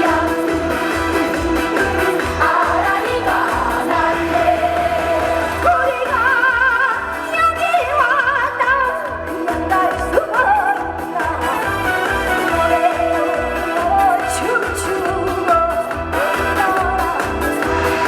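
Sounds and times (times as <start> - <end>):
backing music with steady beat: 0.0 - 18.0
woman singing with vibrato: 0.0 - 18.0.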